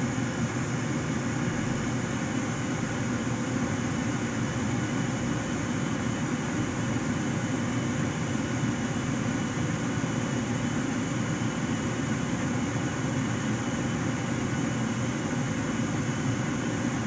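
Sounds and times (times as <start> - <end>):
furnace blower humming: 0.0 - 17.0.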